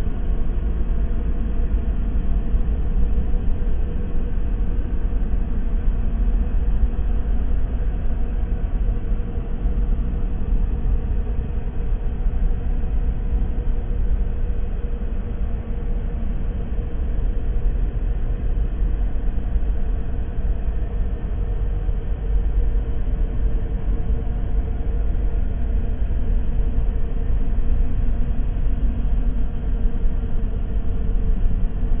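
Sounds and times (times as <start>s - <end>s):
deep rumbling drone: 0.0s - 32.0s.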